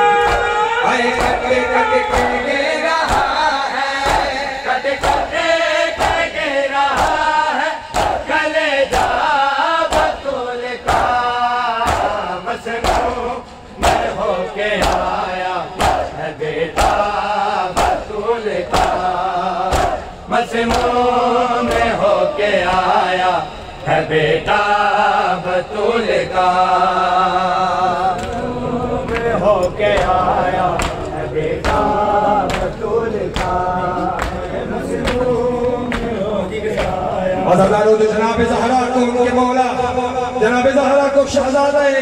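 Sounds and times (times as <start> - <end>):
rhythmic chest-beating strikes: 0.0 - 38.6
men chanting in unison: 0.0 - 42.0.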